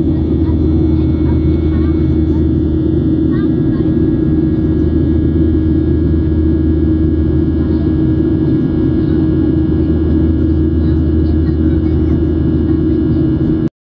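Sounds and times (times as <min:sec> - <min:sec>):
jet engine hum: 0:00.0 - 0:13.7.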